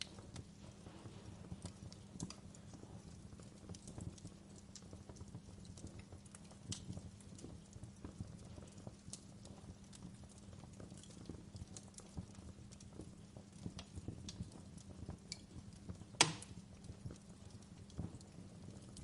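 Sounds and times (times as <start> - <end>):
low fire rumble: 0.0 - 19.0
wood fire crackling: 0.0 - 19.0.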